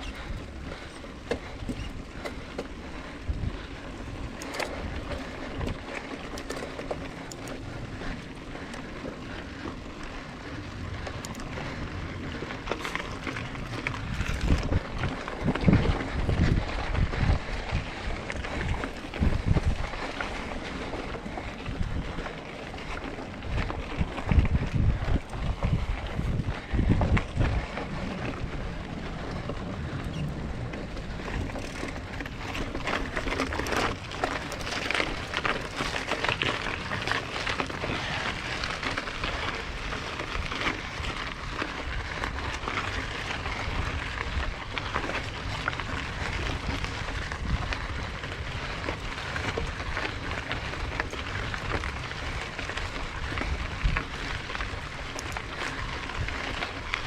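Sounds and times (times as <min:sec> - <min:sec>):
bike tyres crackling on dirt: 0:00.0 - 0:57.0
wind buffeting on microphone: 0:00.0 - 0:57.0.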